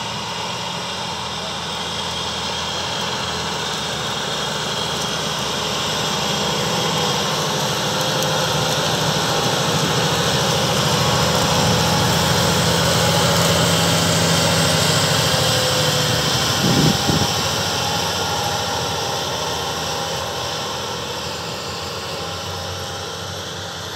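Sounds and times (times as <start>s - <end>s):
tractor diesel engine under load: 0.0s - 23.9s.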